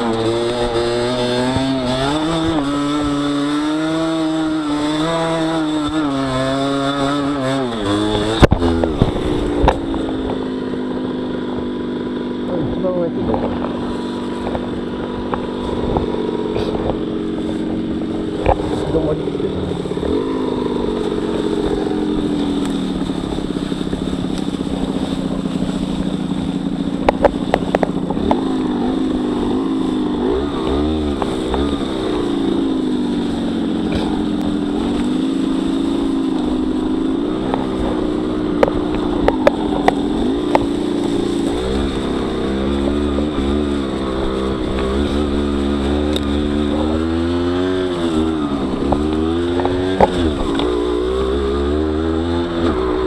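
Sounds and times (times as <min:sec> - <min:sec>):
two-stroke motorbike engine revving: 0:00.0 - 0:53.0.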